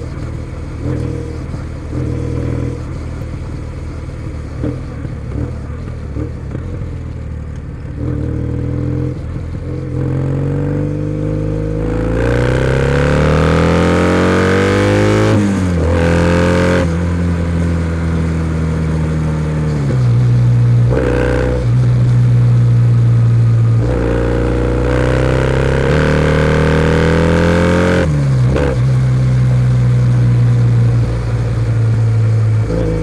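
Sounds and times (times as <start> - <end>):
motorcycle engine under way: 0.0 - 33.0.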